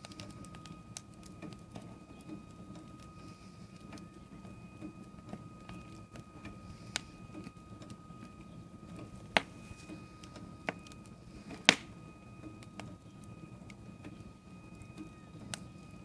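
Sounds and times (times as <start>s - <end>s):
thin steady whine: 0.0s - 16.0s
wood fire crackling and popping: 0.0s - 16.0s.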